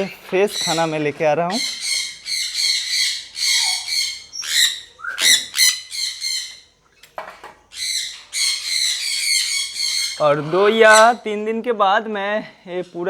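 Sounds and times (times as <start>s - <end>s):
parrots squawking: 0.0s - 11.4s.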